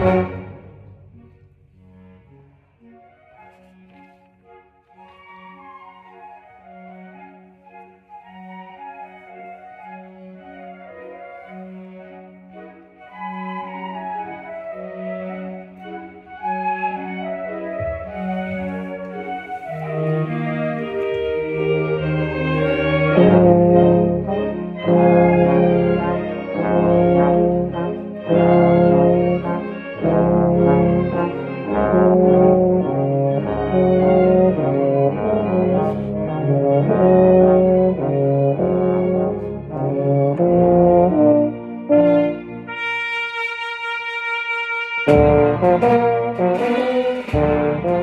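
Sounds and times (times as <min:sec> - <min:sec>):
wind band playing: 0:00.0 - 0:48.0.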